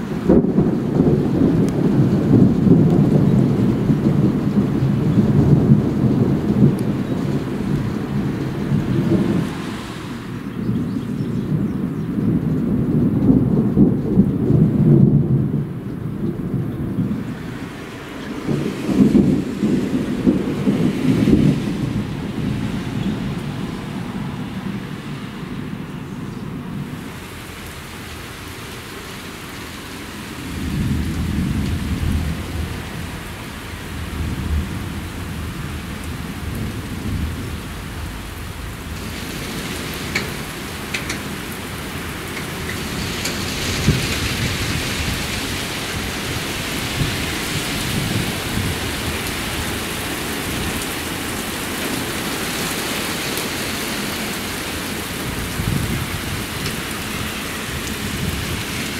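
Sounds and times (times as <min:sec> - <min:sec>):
steady rain: 0:00.0 - 0:58.9
thunder rumbling: 0:00.0 - 0:58.9.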